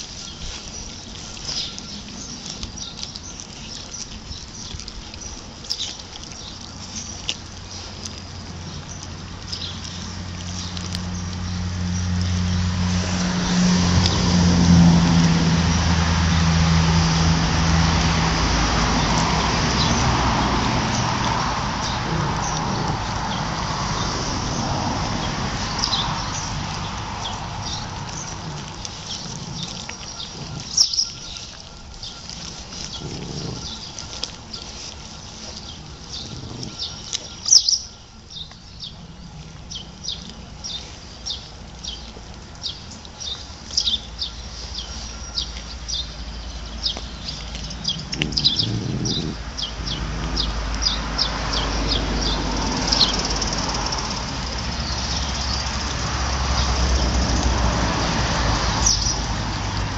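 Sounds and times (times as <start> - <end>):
puppies chewing and tearing: 0.0 - 59.9.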